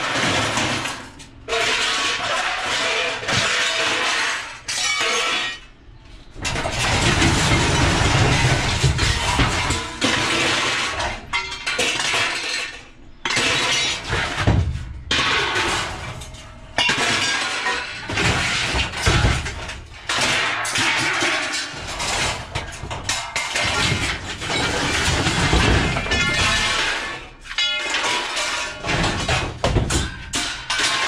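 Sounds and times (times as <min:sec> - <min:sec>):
scrap metal crashing: 0:00.0 - 0:31.0.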